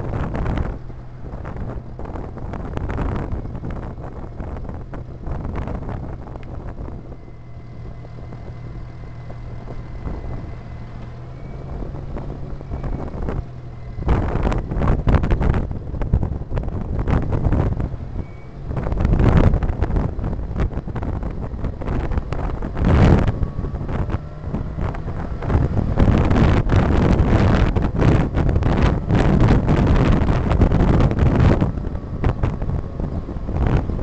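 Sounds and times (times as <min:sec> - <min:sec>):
car engine hum: 0:00.0 - 0:34.0
road noise: 0:00.0 - 0:34.0
wind buffeting microphone: 0:00.0 - 0:34.0.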